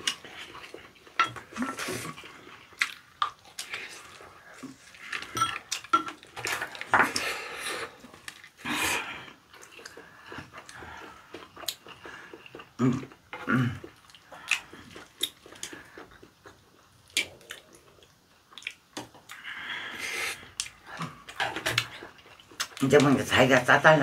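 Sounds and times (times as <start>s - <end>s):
chewing: 0.0s - 19.5s, 20.3s - 23.0s.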